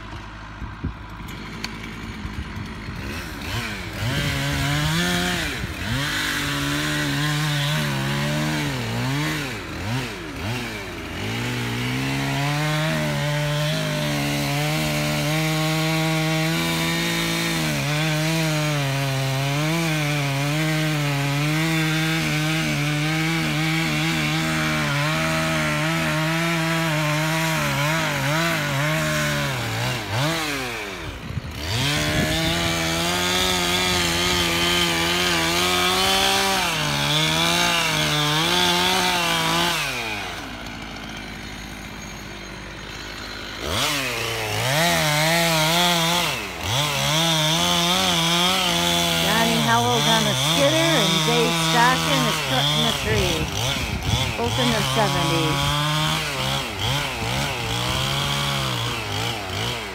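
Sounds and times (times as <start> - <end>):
chainsaw cutting through wood: 0.0 - 59.9.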